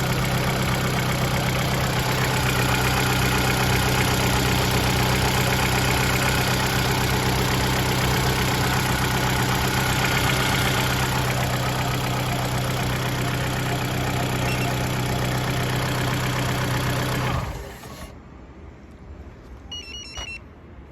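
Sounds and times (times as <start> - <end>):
dull engine knock: 0.0 - 17.4
car engine idling: 0.0 - 18.1.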